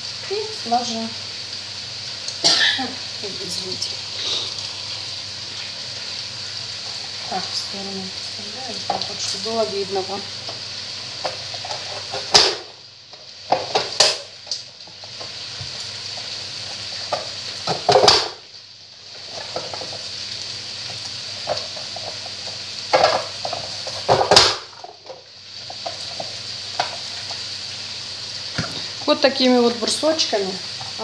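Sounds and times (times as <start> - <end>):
meat and onion sizzling: 0.0 - 31.0.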